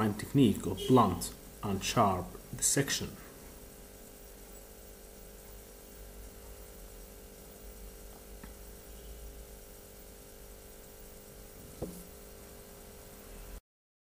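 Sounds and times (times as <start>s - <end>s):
low electrical hum: 0.0s - 13.6s.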